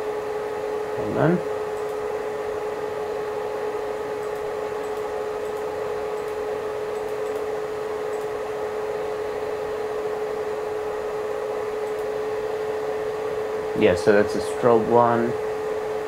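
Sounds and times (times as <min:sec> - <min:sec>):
cooling fan whirring: 0:00.0 - 0:16.0.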